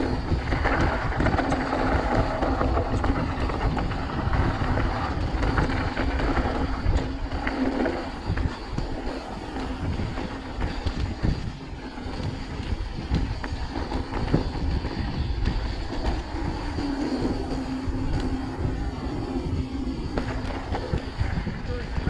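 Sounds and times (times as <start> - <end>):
bike tyres rumbling on gravel: 0.0 - 22.0
wind: 0.0 - 22.0.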